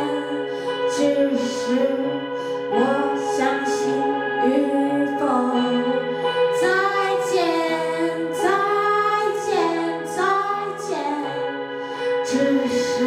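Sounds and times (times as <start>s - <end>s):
electric guitar chords: 0.0s - 13.0s
woman singing: 0.0s - 13.0s.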